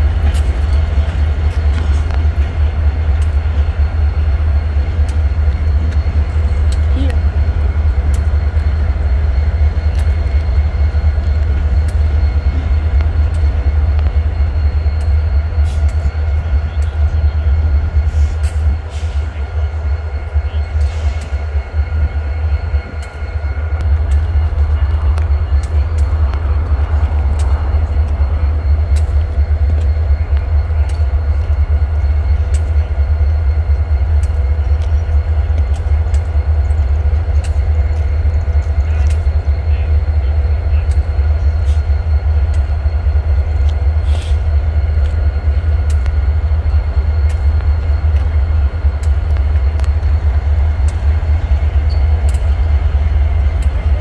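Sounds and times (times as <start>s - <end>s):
diesel locomotive droning: 0.0s - 54.0s.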